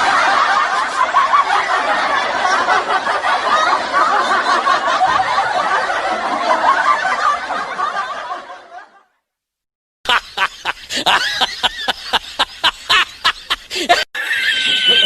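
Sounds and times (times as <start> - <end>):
audience laughter: 0.0 - 9.2, 10.1 - 15.0.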